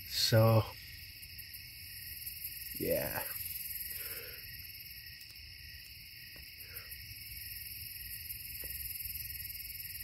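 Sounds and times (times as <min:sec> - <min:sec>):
frogs calling: 0:00.0 - 0:10.0
insects humming: 0:00.0 - 0:10.0.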